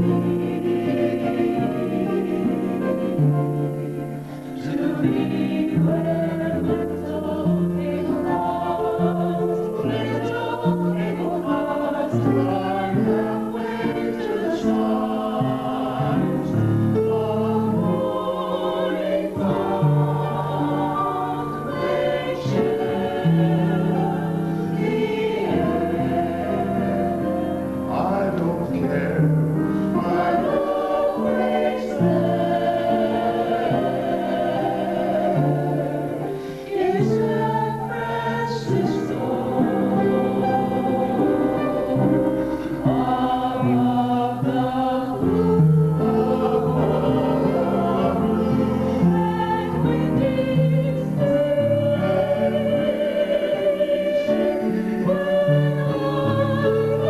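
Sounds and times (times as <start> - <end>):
mixed choir singing in harmony: 0.0 - 57.0.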